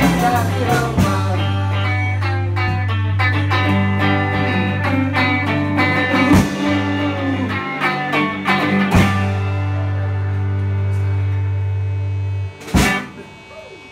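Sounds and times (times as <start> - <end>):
live band with guitars playing: 0.0 - 13.6
guitar chord ringing out: 0.0 - 13.9.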